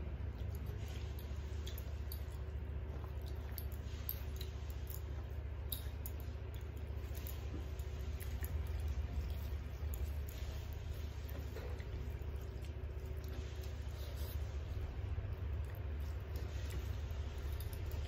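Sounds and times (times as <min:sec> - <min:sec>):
mouths chewing: 0:00.0 - 0:18.0
steady low hum: 0:00.0 - 0:18.0.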